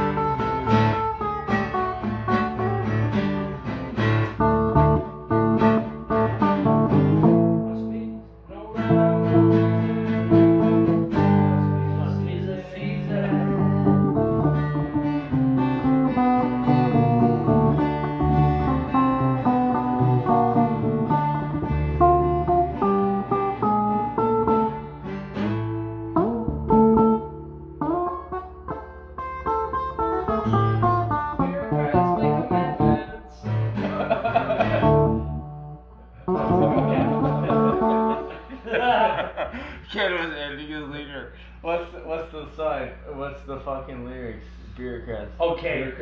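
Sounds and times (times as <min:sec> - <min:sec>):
electric guitar playing: 0:00.0 - 0:39.8.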